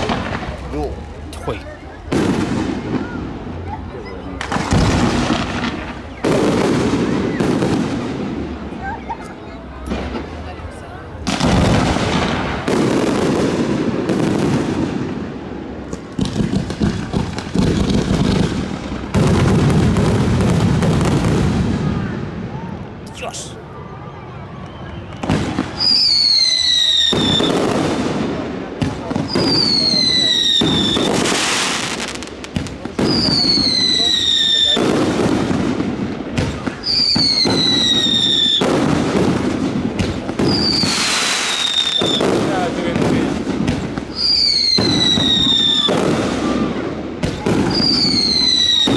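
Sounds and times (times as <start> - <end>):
fireworks booming and crackling: 0.0 - 23.5, 24.6 - 48.9.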